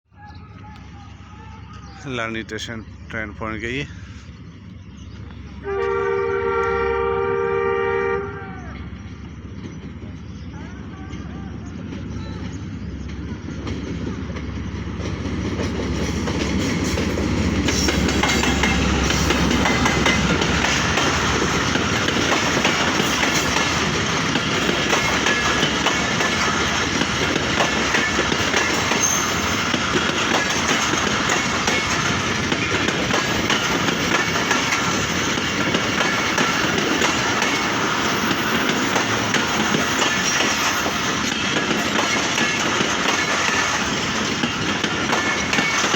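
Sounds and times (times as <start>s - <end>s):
train wheels clattering on track: 8.7s - 45.9s.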